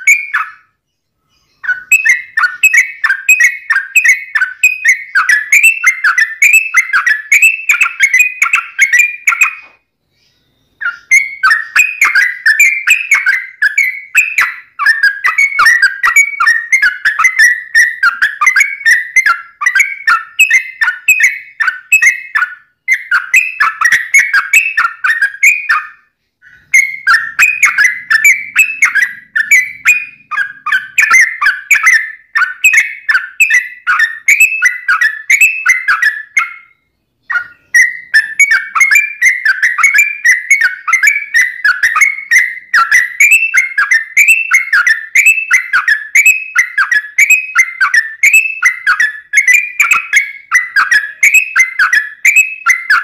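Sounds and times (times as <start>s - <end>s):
bird singing chattering whistles: 0.0s - 53.0s.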